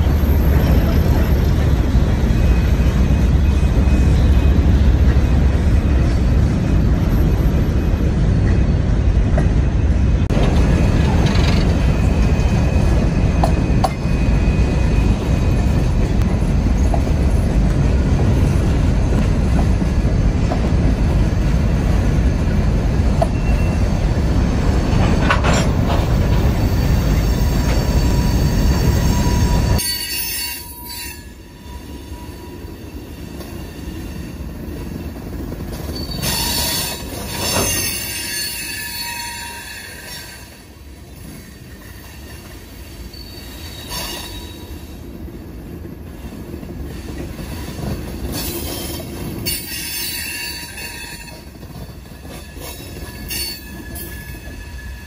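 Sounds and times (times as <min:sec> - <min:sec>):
train wheels squealing on rail: 0:00.0 - 0:08.8, 0:09.4 - 0:20.1, 0:23.0 - 0:55.0
freight train rolling past: 0:00.0 - 0:55.0.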